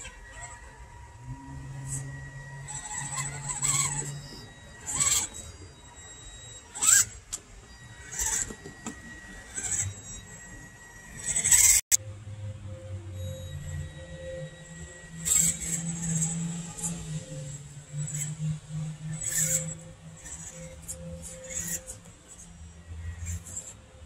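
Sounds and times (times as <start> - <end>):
toy car electric motor whining: 0.0 - 12.0, 13.0 - 24.0.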